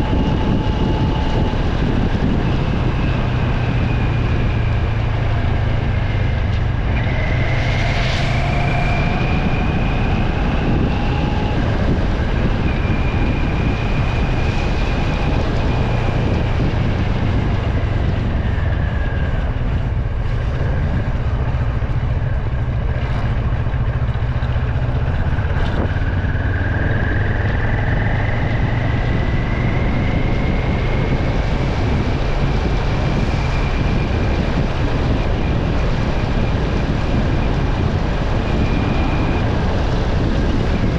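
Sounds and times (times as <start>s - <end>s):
engine and road noise drone: 0.0s - 40.9s
faint whine: 0.0s - 40.9s.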